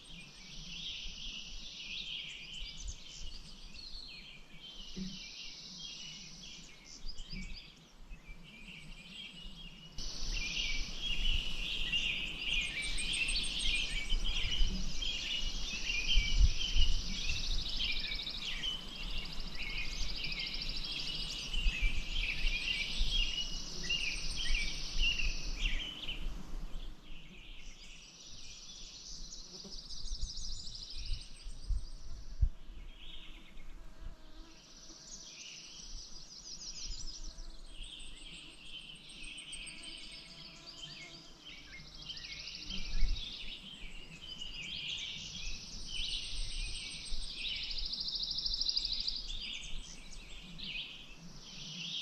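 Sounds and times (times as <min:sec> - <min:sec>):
songbirds singing: 0:00.0 - 0:52.0.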